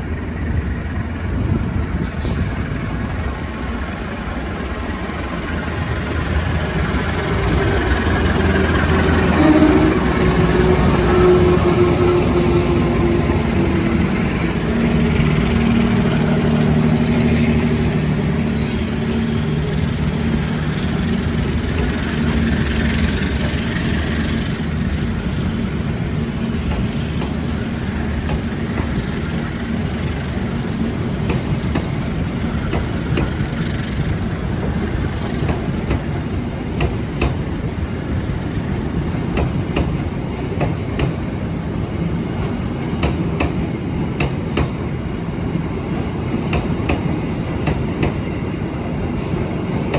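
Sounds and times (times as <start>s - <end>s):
locomotive drone: 0.0s - 49.9s
train coaches rumbling: 0.0s - 49.9s.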